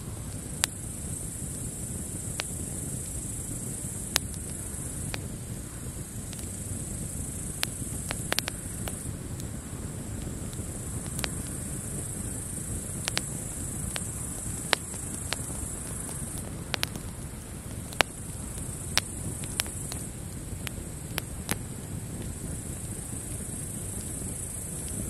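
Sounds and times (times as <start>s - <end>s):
campfire crackling and popping: 0.0s - 25.0s
grasshoppers chirping: 0.0s - 25.0s
low steady rumble: 0.0s - 25.0s.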